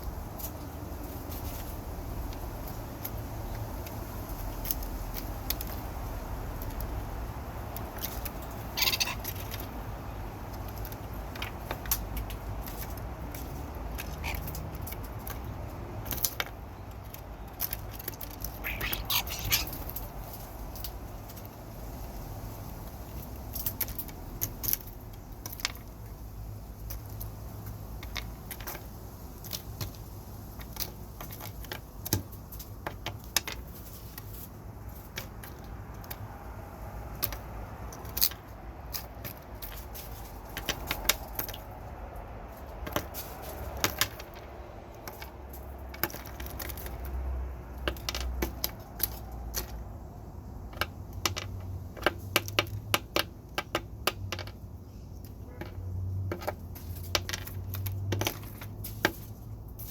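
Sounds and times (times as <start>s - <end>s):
birds pecking on hard surface: 0.0s - 59.9s.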